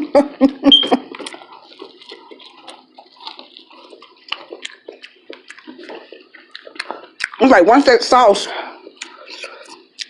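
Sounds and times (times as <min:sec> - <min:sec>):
wet chewing and mouth noises: 0:00.0 - 0:10.0.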